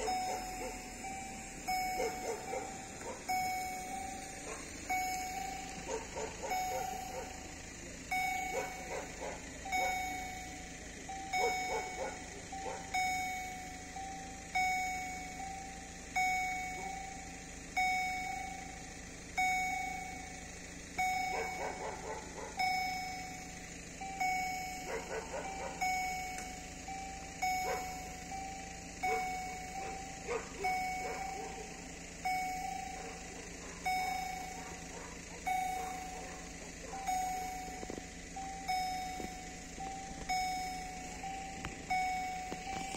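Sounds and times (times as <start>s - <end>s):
level crossing warning bell: 0.0s - 42.9s.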